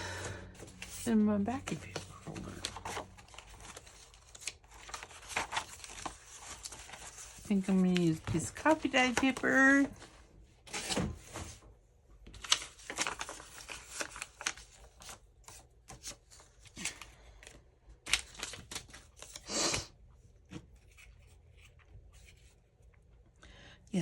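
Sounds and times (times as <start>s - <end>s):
paper rustling: 0.6s - 19.5s, 20.5s - 22.6s.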